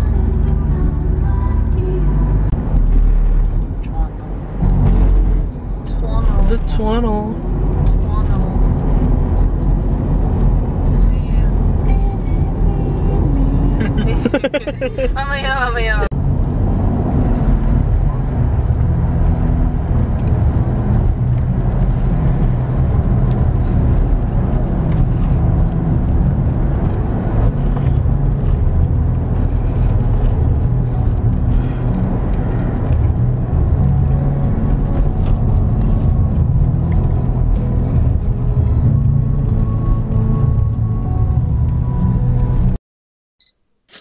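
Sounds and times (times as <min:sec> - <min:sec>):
car engine and tyres rumbling: 0:00.0 - 0:42.8.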